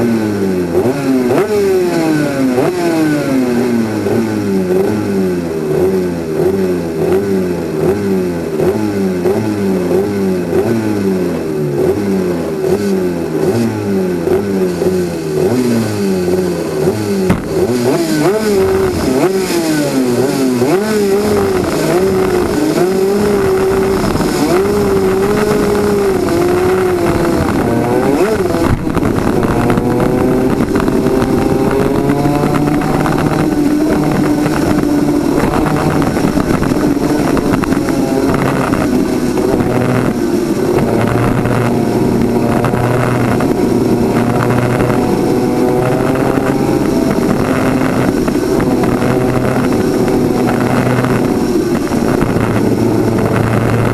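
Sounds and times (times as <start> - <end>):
kart engine at racing speed: 0.0 - 53.9.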